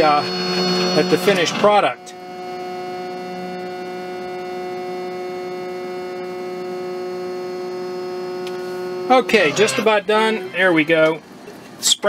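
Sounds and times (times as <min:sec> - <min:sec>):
laser cutter humming: 0:00.0 - 0:11.5.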